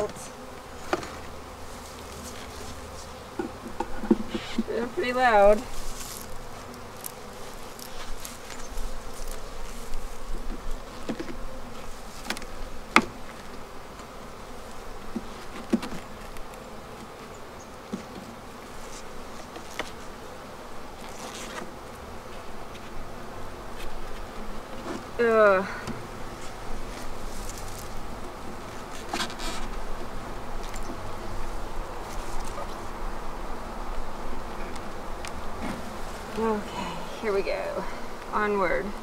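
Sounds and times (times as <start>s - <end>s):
bees buzzing: 0.0s - 39.0s.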